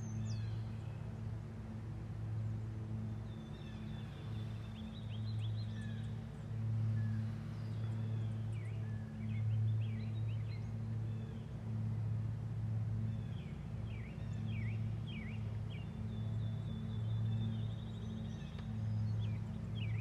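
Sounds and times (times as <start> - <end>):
low droning background music: 0.0 - 20.0
small songbirds chirping: 0.0 - 20.0.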